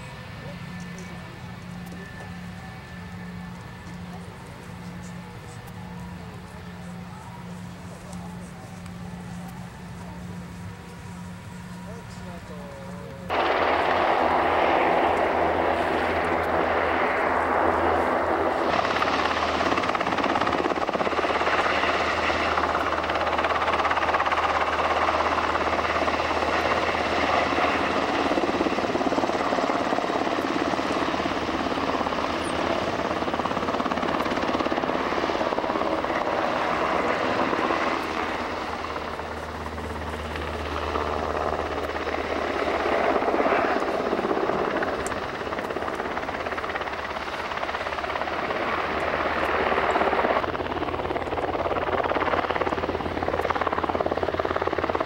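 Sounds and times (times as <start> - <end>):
helicopter flying past: 0.0 - 55.0.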